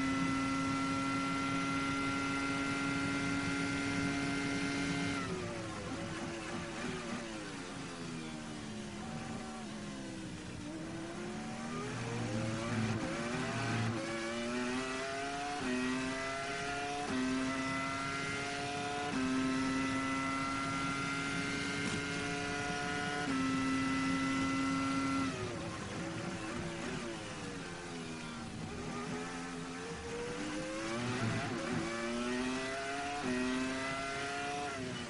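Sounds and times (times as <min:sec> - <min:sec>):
racing car engine at full throttle: 0:00.0 - 0:35.0.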